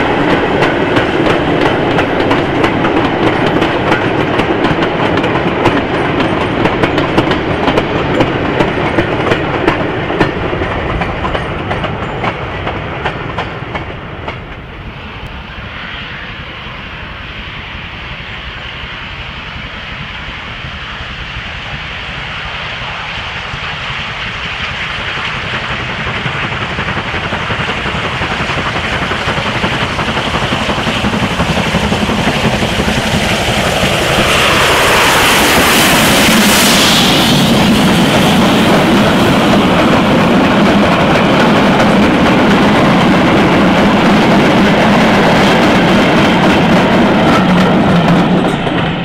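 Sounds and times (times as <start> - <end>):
train wheels clicking over rail joints: 0.0 - 14.8, 23.3 - 49.0
steam locomotive rumble: 0.0 - 49.0.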